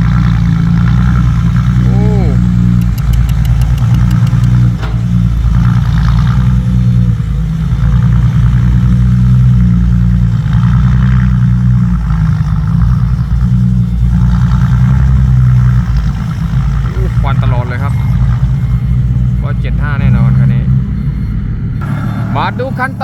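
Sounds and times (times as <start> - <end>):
truck engine under heavy load: 0.0 - 23.0.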